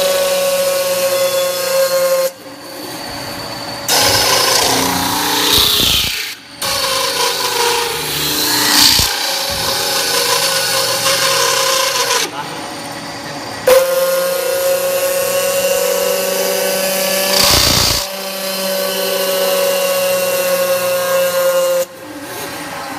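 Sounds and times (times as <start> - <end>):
metal spinning machine whine: 0.0 - 22.9.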